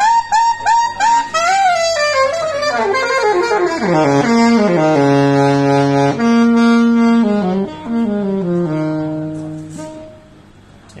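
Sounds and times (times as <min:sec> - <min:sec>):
alto saxophone playing: 0:00.0 - 0:10.8.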